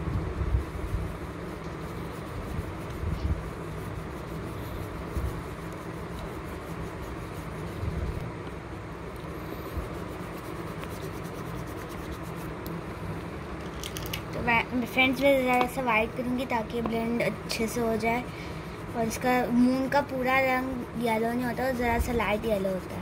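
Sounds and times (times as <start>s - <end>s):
low background rumble: 0.0s - 23.0s
crayon scratching on paper: 0.5s - 8.2s, 9.3s - 12.7s, 14.4s - 23.0s.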